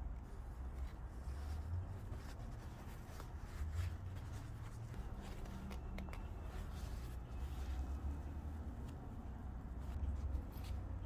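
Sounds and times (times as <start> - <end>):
fabric scratching and rubbing: 0.0 - 11.0.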